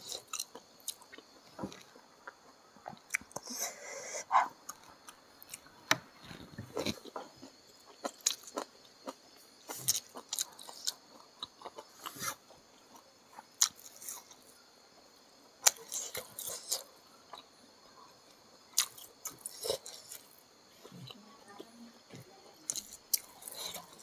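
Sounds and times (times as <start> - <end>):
person chewing food: 0.0 - 14.5, 15.6 - 17.6, 18.5 - 21.2, 22.7 - 24.0.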